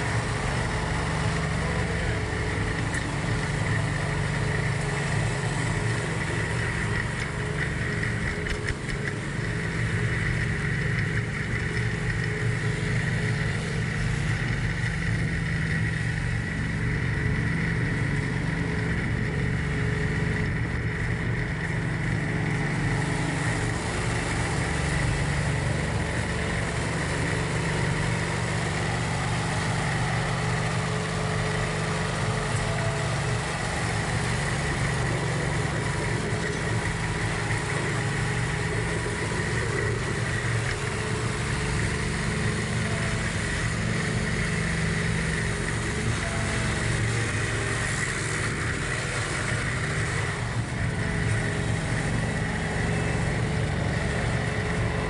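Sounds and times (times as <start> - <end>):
high whine: 0.0 - 55.0
tractor diesel engine running: 0.0 - 55.0.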